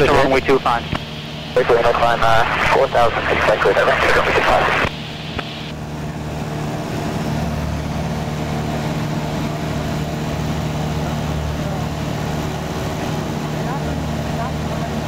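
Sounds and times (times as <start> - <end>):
plane engine droning inside cabin: 0.0 - 15.0.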